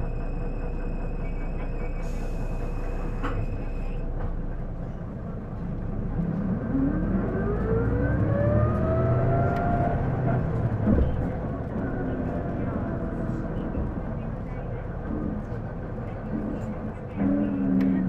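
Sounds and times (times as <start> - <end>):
bus running noise: 0.0 - 18.0.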